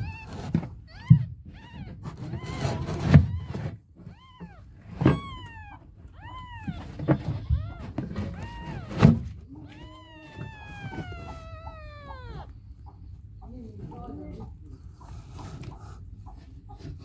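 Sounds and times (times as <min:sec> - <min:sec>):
kittens mewing: 0:00.0 - 0:16.0.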